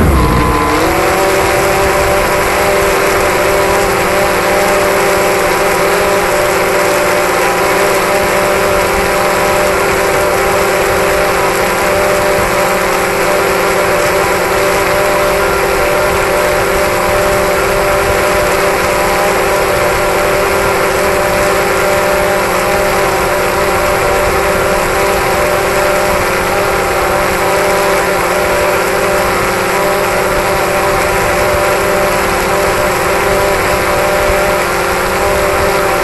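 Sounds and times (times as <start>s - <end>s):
drone propellers whining: 0.0s - 36.0s
rush of downwash: 0.0s - 36.0s.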